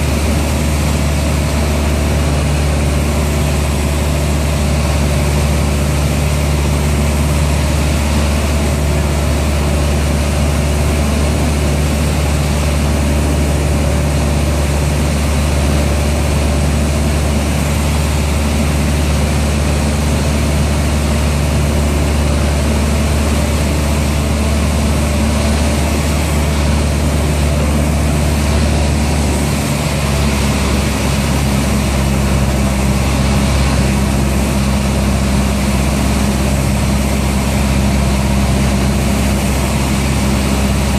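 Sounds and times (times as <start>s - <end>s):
propeller airplane engine drone: 0.0s - 40.9s.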